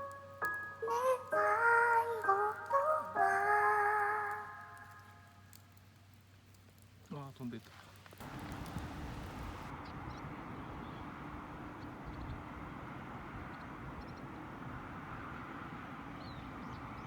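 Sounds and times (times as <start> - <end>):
constant even hiss: 0.0 - 17.0.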